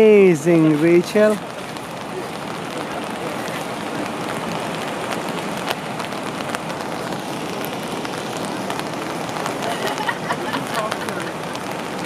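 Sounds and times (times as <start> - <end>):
whitewater rushing over rocks: 0.0 - 12.0.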